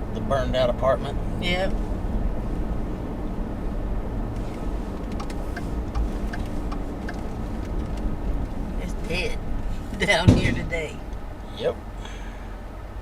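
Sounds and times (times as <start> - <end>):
car engine drone: 0.0 - 13.0
road noise: 0.0 - 13.0
turn signal ticking: 1.1 - 12.2.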